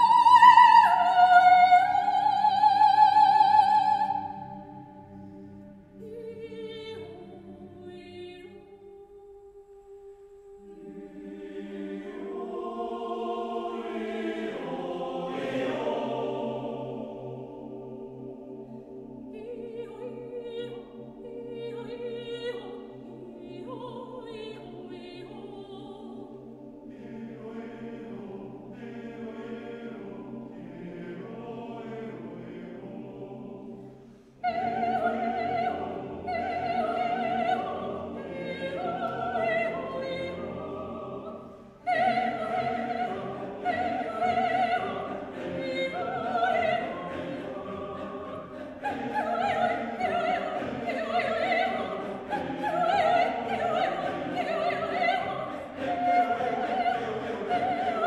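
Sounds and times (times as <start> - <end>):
men's choir singing: 10.7 - 58.0.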